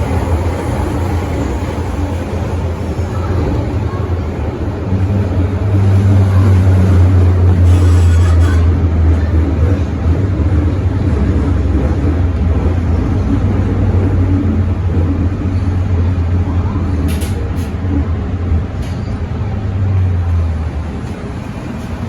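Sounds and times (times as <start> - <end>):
train running hum and rumble: 0.0 - 22.0.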